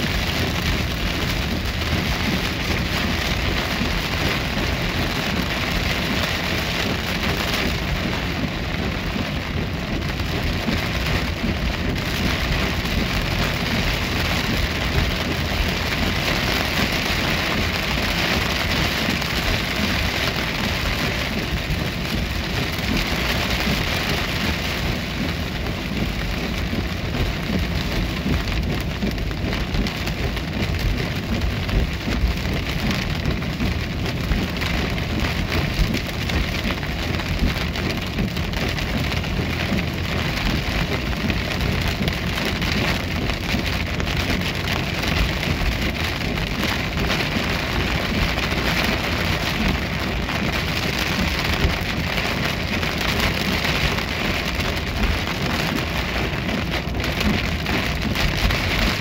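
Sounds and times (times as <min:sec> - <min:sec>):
heavy rain on a car: 0:00.0 - 0:59.0.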